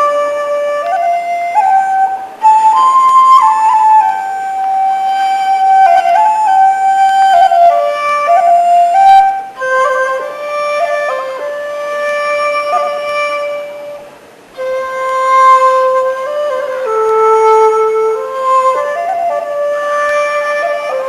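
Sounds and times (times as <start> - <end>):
solo flute melody: 0.0 - 21.0.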